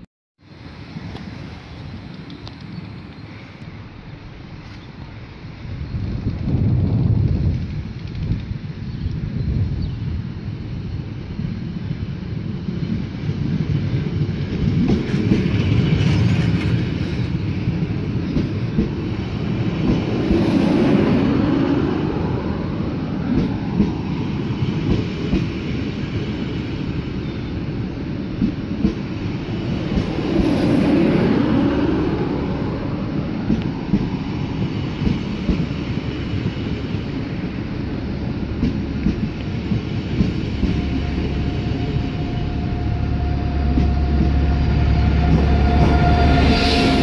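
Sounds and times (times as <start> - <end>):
train wheels rumbling on rails: 0.5 - 47.0.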